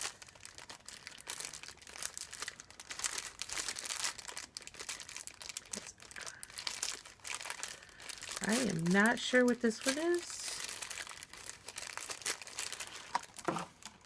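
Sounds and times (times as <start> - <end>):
foil bag crinkling: 0.0 - 14.0.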